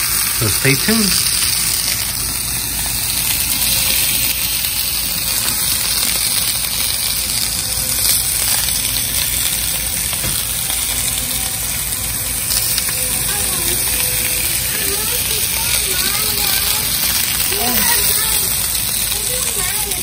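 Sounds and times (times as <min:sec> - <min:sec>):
vegetables sizzling on a griddle: 0:00.0 - 0:20.0.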